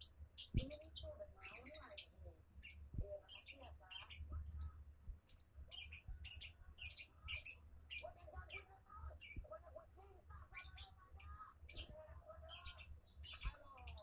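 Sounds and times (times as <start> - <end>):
lovebird chattering chirps: 0.4 - 9.5, 10.5 - 14.0.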